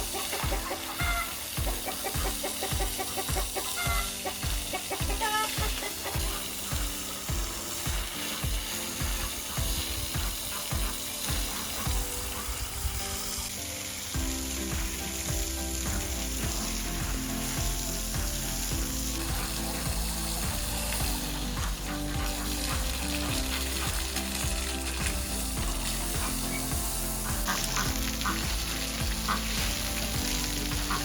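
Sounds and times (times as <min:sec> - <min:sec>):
food sizzling: 0:00.0 - 0:31.0.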